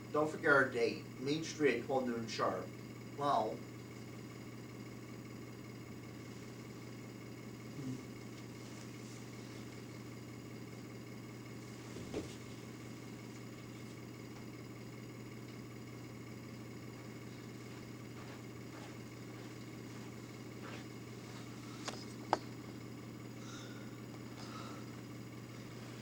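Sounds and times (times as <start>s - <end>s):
low hum with hiss: 0.0s - 26.0s.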